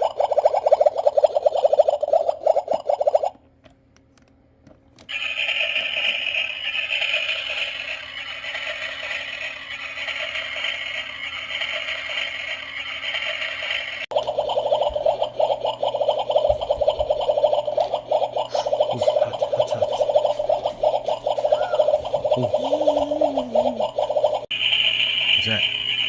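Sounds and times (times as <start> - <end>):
toy stove pulsing sound: 0.0 - 3.4, 5.0 - 26.0.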